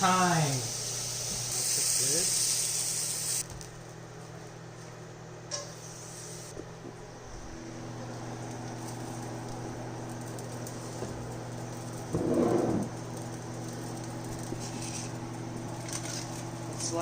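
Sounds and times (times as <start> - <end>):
appliance fan hum: 0.0 - 17.0
higher electrical hum: 0.0 - 17.0.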